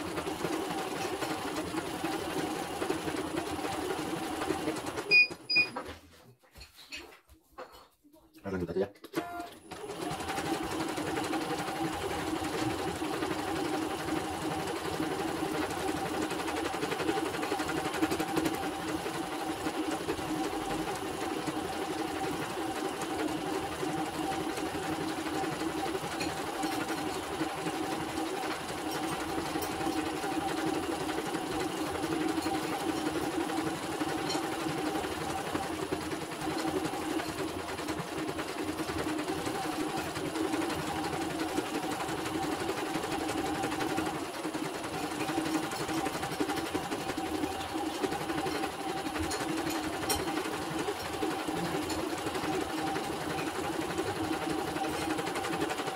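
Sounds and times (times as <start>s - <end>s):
embroidery machine stitching: 0.0s - 5.8s, 9.2s - 55.9s.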